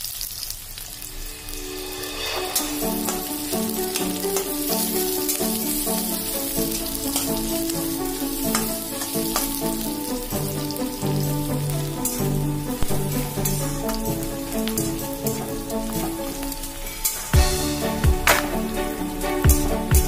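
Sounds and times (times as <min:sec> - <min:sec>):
onions sizzling in hot oil: 0:00.0 - 0:20.0
background music: 0:01.0 - 0:20.0.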